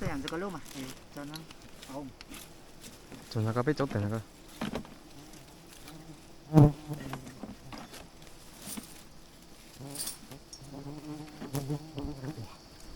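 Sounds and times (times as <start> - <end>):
bees buzzing: 0.0 - 12.9.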